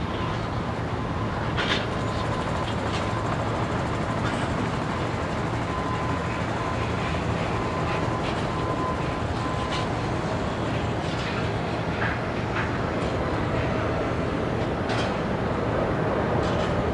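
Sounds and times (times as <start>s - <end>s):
faint engine whine: 0.0s - 16.9s
jet engines rumbling: 0.0s - 16.9s.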